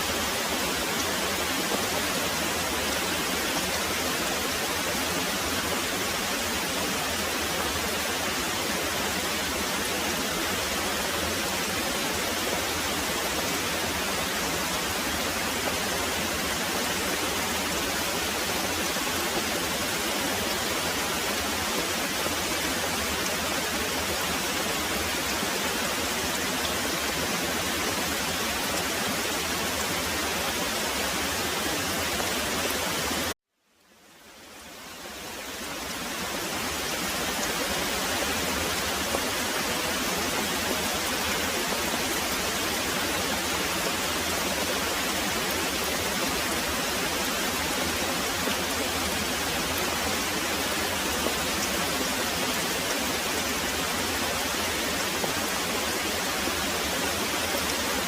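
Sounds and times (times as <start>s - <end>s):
heavy rain pouring: 0.0s - 33.4s, 34.6s - 58.0s.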